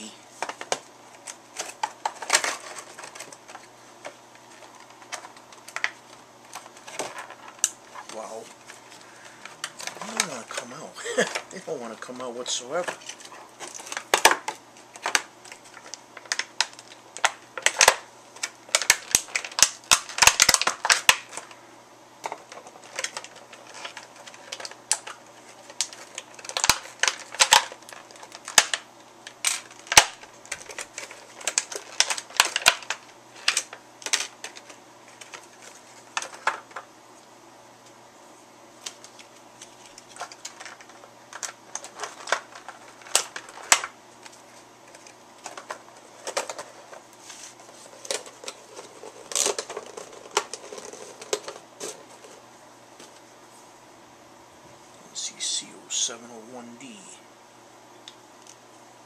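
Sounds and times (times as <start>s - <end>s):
plastic packaging crackling: 0.0s - 21.6s, 22.2s - 36.9s, 38.8s - 53.2s.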